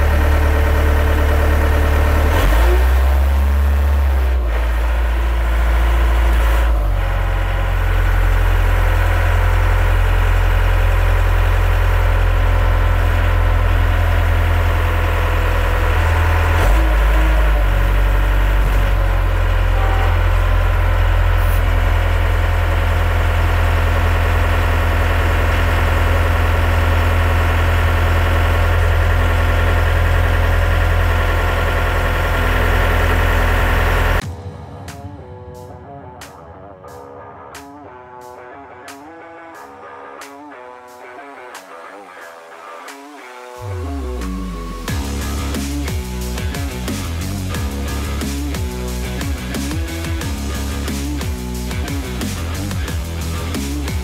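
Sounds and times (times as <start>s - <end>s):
diesel engine running: 0.0s - 34.4s, 43.5s - 54.0s.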